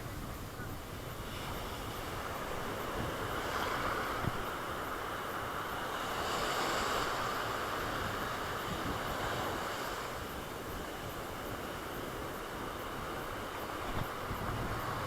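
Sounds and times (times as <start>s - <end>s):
wind on microphone: 0.0s - 5.0s, 5.9s - 15.0s
sea surf washing onto beach: 0.0s - 15.0s.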